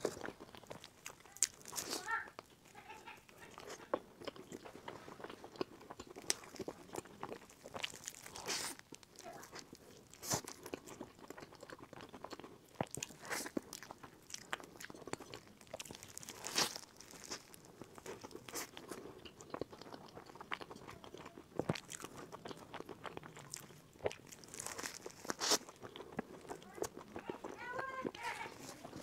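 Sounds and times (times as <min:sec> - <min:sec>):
person chewing crispy food: 0:00.0 - 0:29.0.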